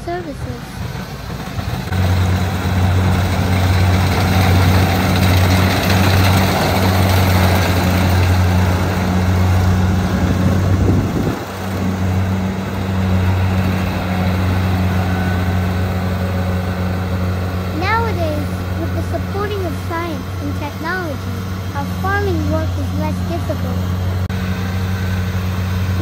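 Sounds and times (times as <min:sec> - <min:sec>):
diesel engine humming: 0:00.0 - 0:26.0
mechanical rush: 0:00.0 - 0:26.0.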